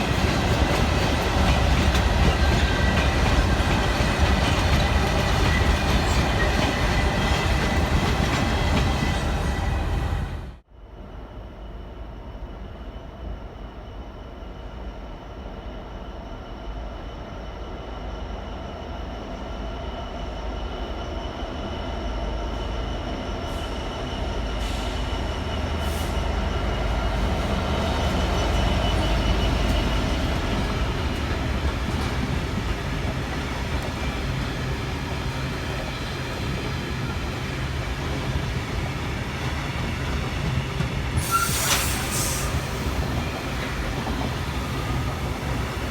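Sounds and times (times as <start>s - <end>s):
diesel train approaching: 0.0s - 45.9s.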